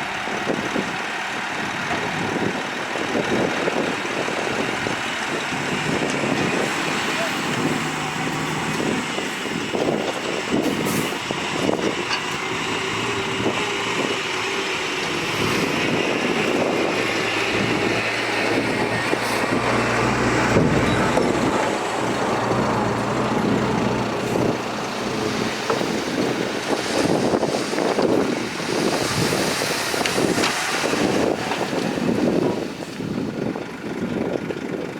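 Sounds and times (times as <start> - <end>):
diesel earthmoving machinery running: 0.0 - 34.9.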